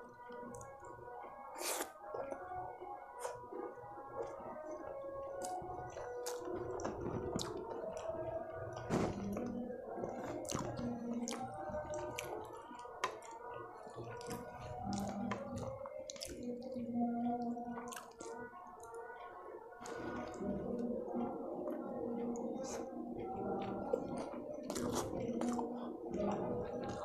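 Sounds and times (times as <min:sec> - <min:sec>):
wet chewing: 0:00.2 - 0:27.0.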